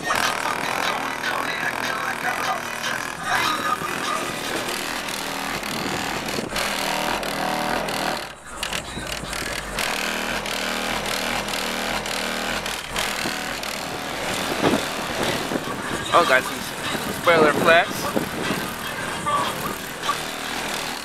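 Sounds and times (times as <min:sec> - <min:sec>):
distorted subwoofer bass rumble: 0:00.0 - 0:21.0.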